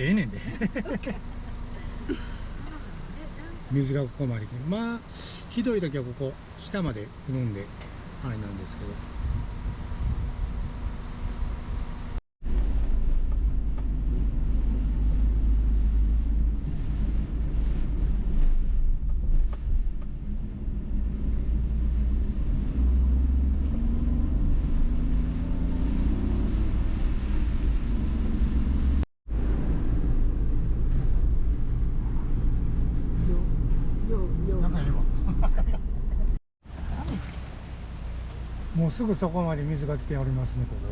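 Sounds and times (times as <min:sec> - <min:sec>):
car interior road noise: 0:00.0 - 0:40.9.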